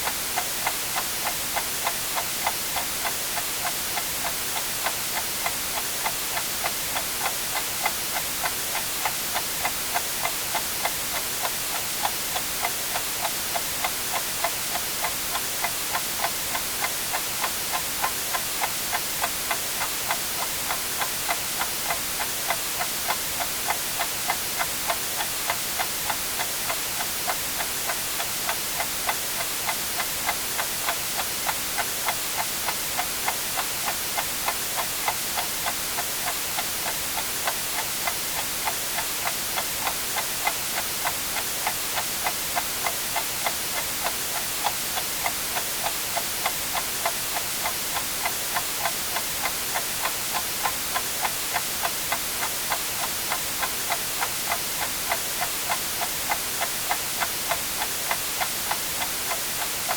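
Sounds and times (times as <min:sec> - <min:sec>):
white noise hiss: 0:00.0 - 0:59.9
clock ticking: 0:00.1 - 0:59.9.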